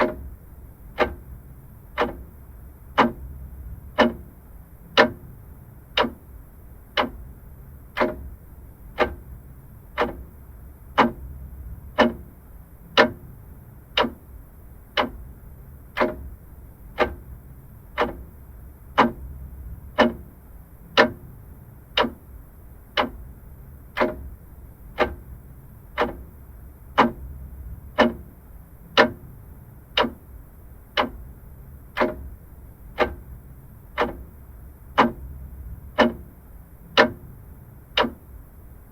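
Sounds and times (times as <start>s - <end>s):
clock ticking: 0.0s - 38.7s.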